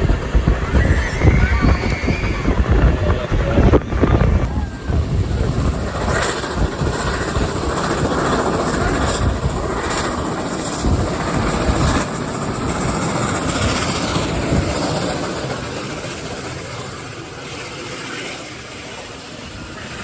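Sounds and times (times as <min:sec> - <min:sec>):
train rail and running noise: 0:00.0 - 0:20.0.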